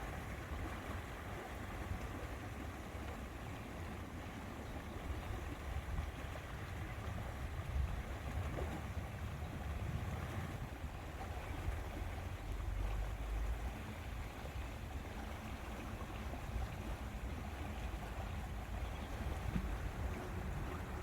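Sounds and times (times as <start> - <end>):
lake water lapping: 0.0 - 21.0
steady wind: 0.0 - 21.0.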